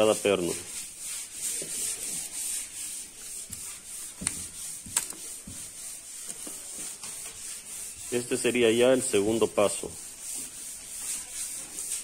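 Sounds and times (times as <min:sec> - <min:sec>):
rubbing and handling noise: 0:00.0 - 0:12.0.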